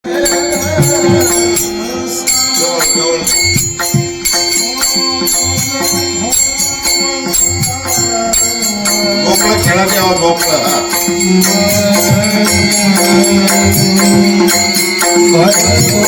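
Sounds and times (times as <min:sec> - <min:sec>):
held drone note: 0:00.0 - 0:16.0
jingling hand cymbals: 0:00.0 - 0:16.0
person singing: 0:00.0 - 0:16.0.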